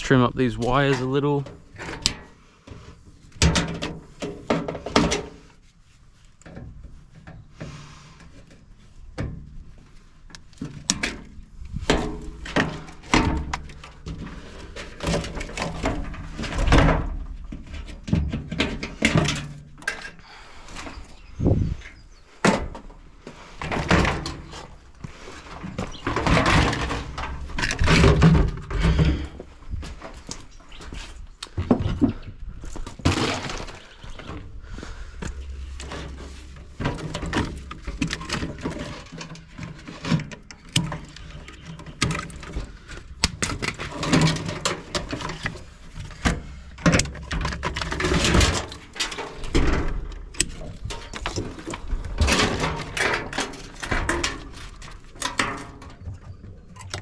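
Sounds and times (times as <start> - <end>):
metal parts knocking and scraping: 10.4 - 34.5, 35.1 - 57.0.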